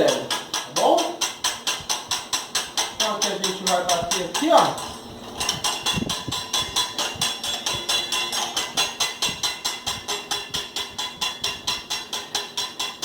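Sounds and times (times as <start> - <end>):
utensil clicking against bowl: 0.0 - 13.0.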